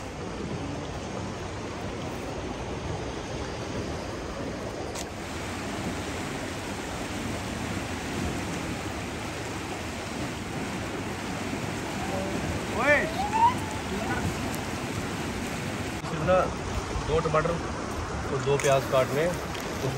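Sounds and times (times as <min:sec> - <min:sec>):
river rushing: 0:00.0 - 0:19.9.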